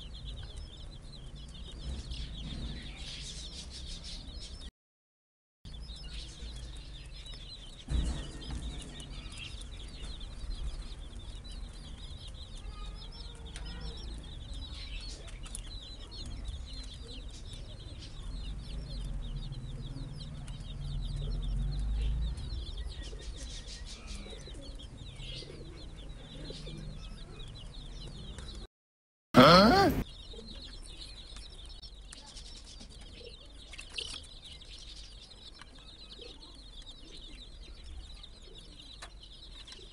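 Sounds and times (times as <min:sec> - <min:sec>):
baby chicks peeping: 0:00.0 - 0:04.7, 0:05.7 - 0:28.7, 0:29.4 - 0:39.9.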